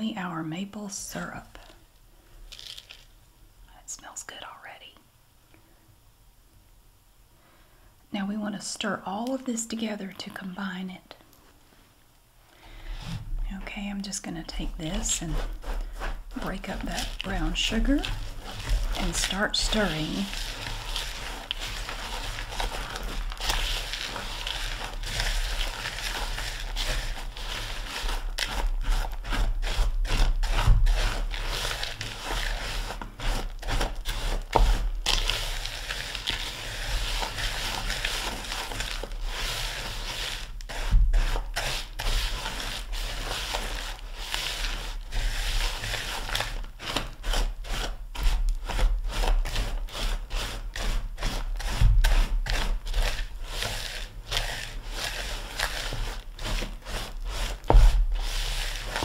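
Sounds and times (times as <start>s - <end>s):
spatula scraping dry mix in bowl: 8.2s - 10.9s, 12.7s - 59.0s.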